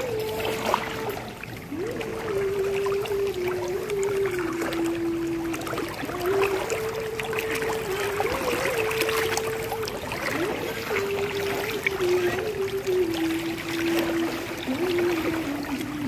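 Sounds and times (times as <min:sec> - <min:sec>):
humming tone: 0:00.0 - 0:16.0
water sloshing and splashing: 0:00.0 - 0:16.0.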